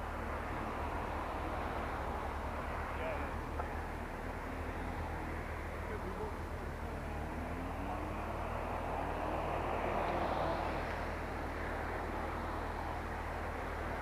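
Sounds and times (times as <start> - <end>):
low traffic rumble: 0.0 - 14.0
vehicle engine noise: 0.0 - 14.0.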